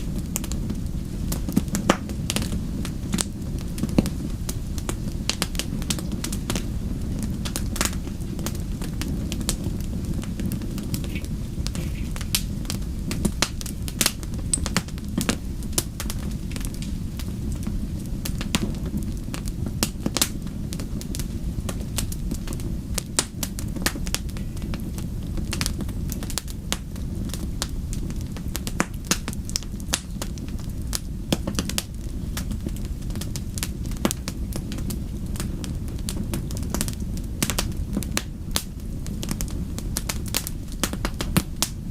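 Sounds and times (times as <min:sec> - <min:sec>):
fire popping and snapping: 0:00.0 - 0:41.9
low rumble of flames: 0:00.0 - 0:41.9.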